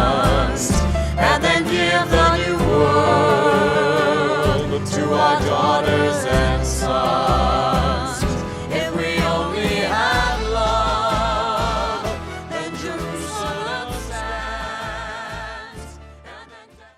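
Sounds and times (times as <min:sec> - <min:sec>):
bass backing: 0:00.0 - 0:16.4
voices singing slow ballad: 0:00.0 - 0:16.9.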